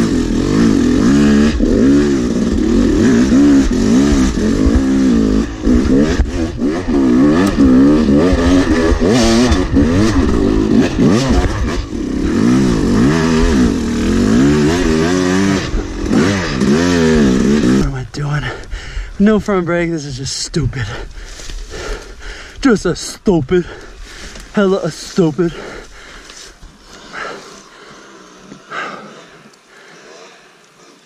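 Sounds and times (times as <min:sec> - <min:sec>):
dirt bike engine revving: 0:00.0 - 0:29.5.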